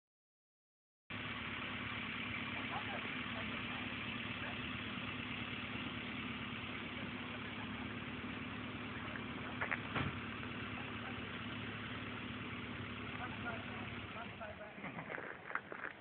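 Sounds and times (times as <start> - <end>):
engine-like hum: 1.1 - 16.0.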